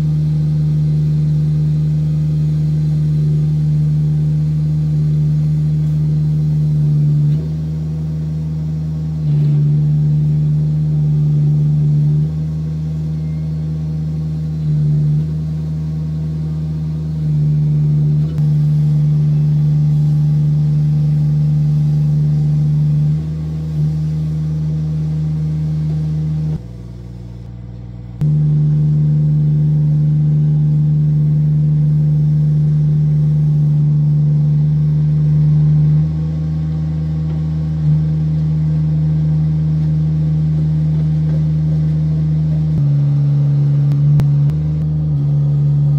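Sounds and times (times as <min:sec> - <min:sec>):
digger engine running: 0:00.0 - 0:45.9.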